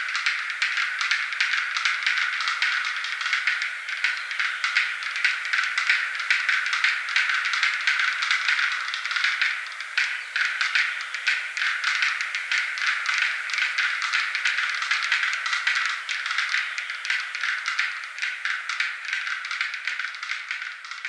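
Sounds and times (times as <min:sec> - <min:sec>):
bird display calls clicking: 0:00.0 - 0:21.0.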